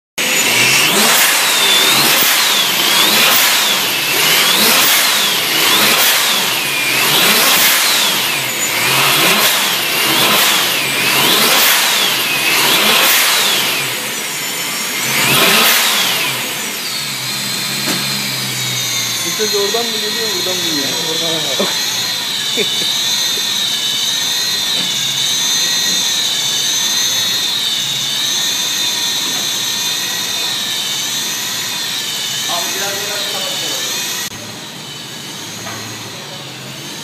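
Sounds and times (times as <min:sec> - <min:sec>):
engine revving in free rev: 0:00.2 - 0:37.0
supercharger whine: 0:00.2 - 0:37.0.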